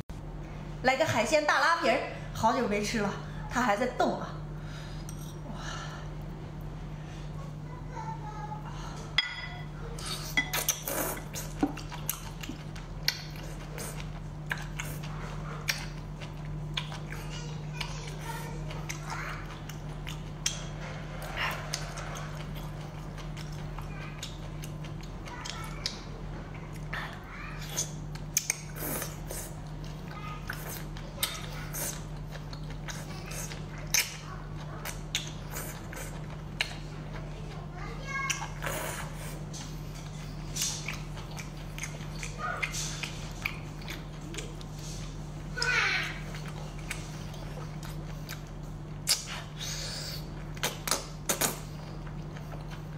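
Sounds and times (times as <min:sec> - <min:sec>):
wet slurping and chewing: 0:09.9 - 0:52.9.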